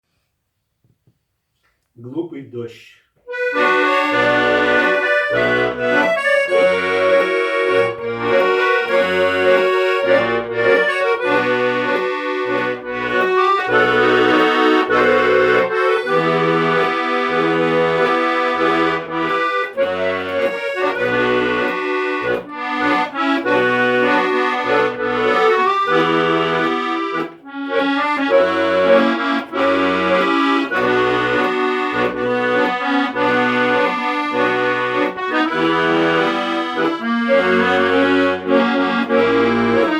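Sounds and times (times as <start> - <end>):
accordion playing a tune: 3.3 - 39.9.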